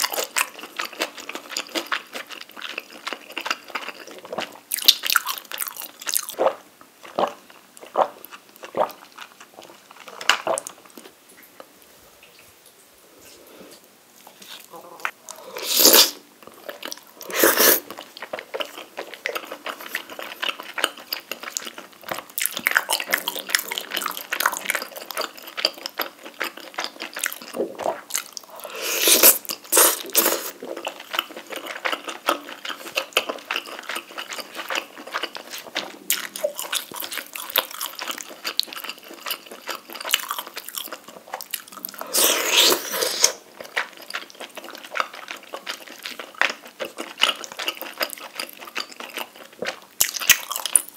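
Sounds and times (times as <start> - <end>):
wet chewing and mouth sounds: 0.0 - 11.6, 14.2 - 50.9.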